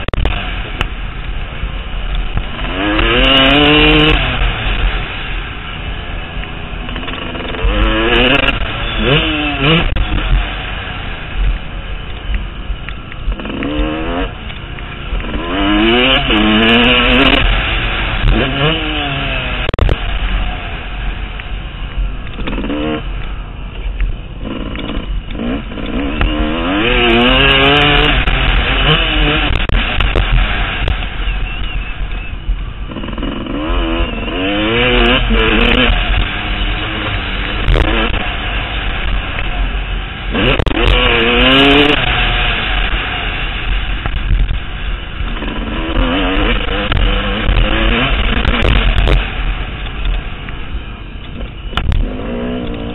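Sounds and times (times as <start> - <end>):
constant rushing noise: 0.0 - 52.9
motocross bike engine revving: 0.0 - 52.9.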